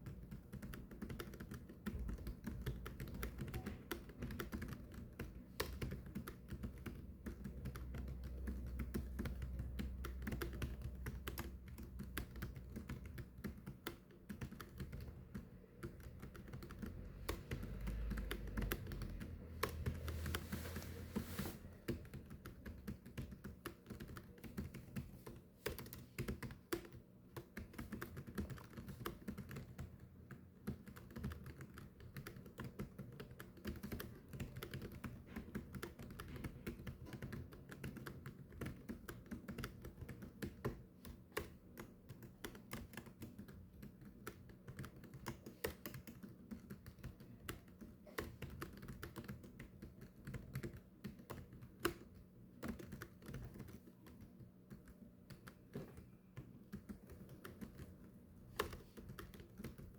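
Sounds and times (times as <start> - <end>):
fast typing on keyboard: 0.0 - 20.6, 21.2 - 59.9.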